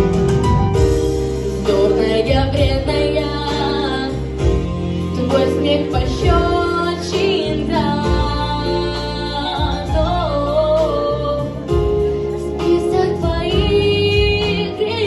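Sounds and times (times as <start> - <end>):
backing track with bass and beat: 0.0 - 15.0.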